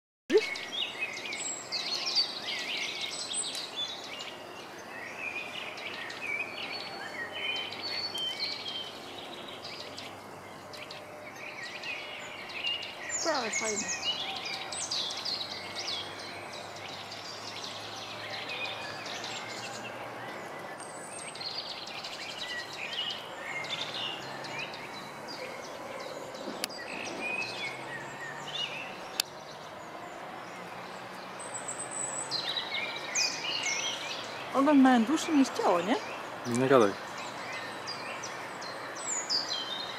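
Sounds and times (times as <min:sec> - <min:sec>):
outdoor background hiss: 0:00.3 - 0:39.9
songbirds chirping: 0:00.3 - 0:39.9.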